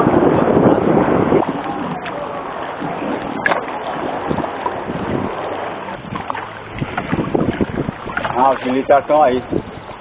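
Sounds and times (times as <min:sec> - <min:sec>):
water splashing around a kayak: 0:00.0 - 0:10.0
wind on microphone: 0:00.0 - 0:10.0.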